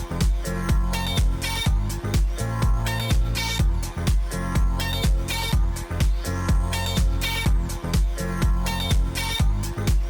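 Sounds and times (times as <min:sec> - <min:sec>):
disco-funk dance music: 0:00.0 - 0:10.0.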